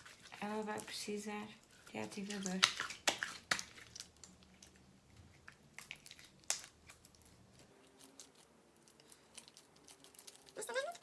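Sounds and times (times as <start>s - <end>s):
slime squishing by hand: 0.0s - 11.0s.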